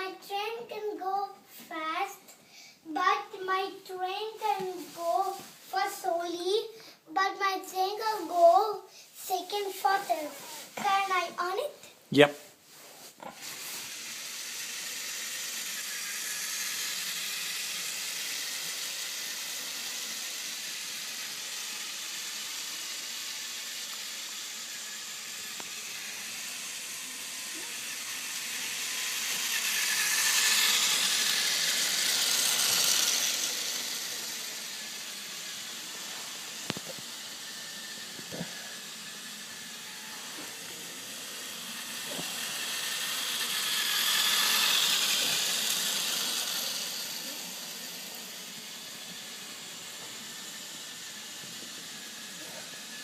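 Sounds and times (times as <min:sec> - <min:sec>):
toy train steam hissing: 0:00.0 - 0:11.8, 0:12.7 - 0:53.0.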